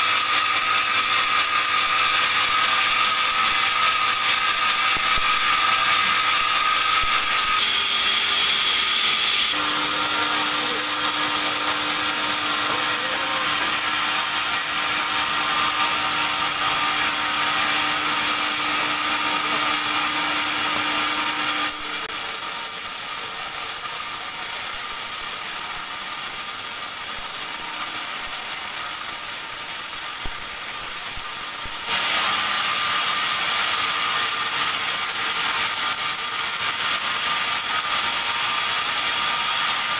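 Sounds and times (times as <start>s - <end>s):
band sawmill sawing log: 0.0s - 39.9s.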